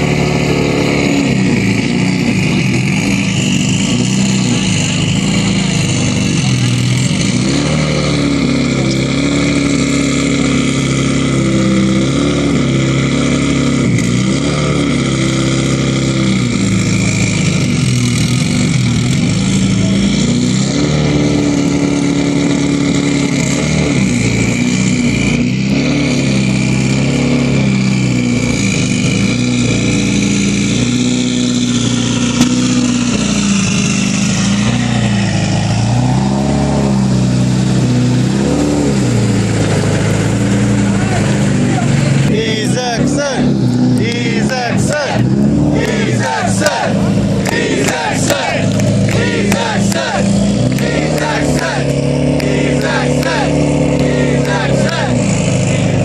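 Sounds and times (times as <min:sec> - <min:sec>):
engine throttle blips: 0:00.0 - 0:56.0
rally car engine idling: 0:00.0 - 0:56.0.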